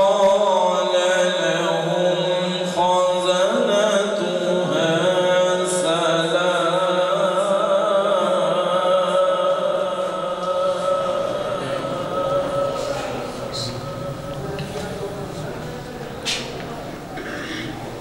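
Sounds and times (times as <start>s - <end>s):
man reciting melodically: 0.0s - 17.1s.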